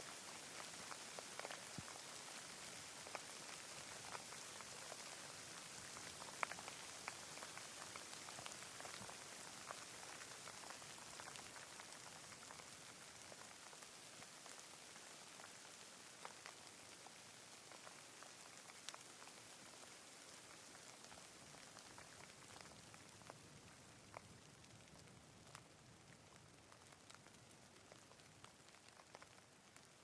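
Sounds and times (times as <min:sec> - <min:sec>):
steady rain hiss: 0:00.0 - 0:30.0
raindrops ticking: 0:00.1 - 0:30.0.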